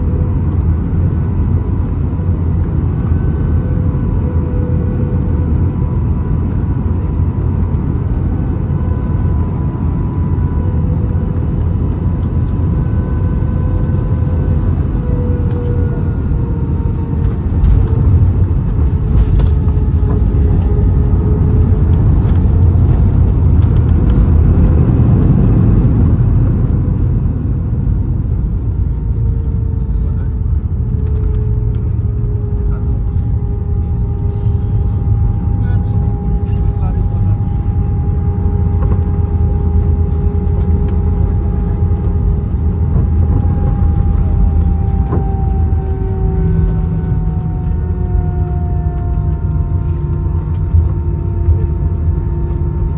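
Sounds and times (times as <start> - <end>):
jet engines and wheels rumbling: 0.0 - 52.9.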